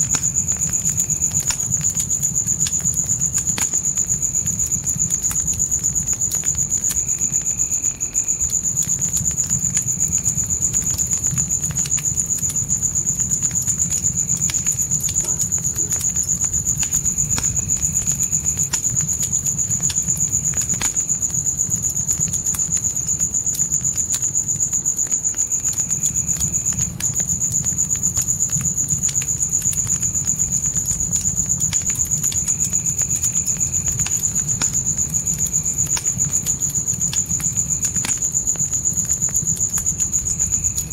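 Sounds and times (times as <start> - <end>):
crickets trilling: 0.0 - 40.9
fire crackling and popping: 0.0 - 40.9.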